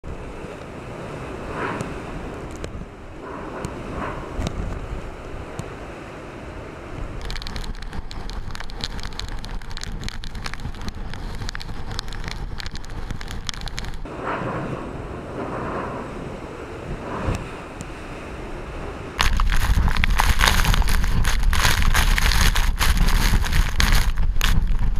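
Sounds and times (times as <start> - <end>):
crackling rain: 0.0 - 24.9
wind buffeting microphone: 0.0 - 24.9.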